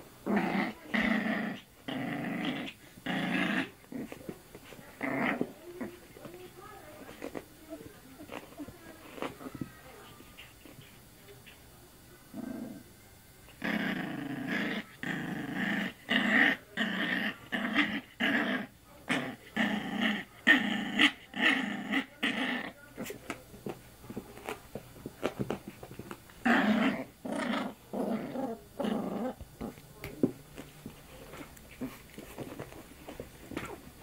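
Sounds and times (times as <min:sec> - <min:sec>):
puppy play-growling: 0:00.0 - 0:34.0.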